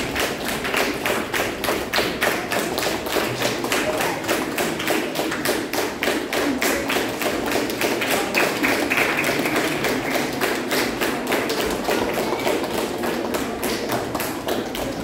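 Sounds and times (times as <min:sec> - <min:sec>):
audience clapping in rhythm: 0:00.0 - 0:15.0.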